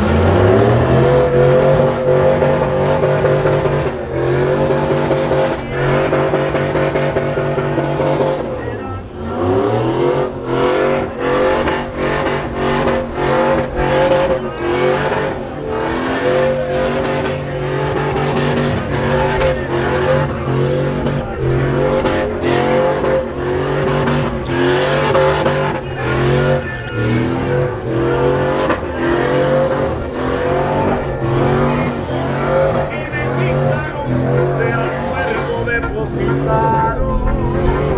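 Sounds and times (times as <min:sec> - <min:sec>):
car engine revving: 0:00.0 - 0:37.9
tyres squealing: 0:00.1 - 0:37.9.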